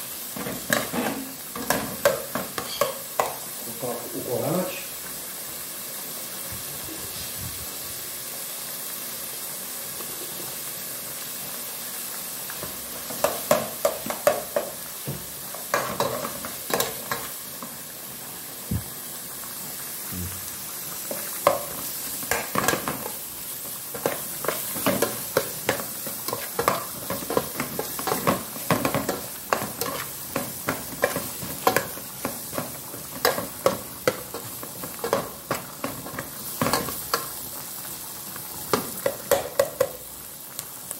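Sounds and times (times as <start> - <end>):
vegetables sizzling in hot oil: 0.0 - 40.9.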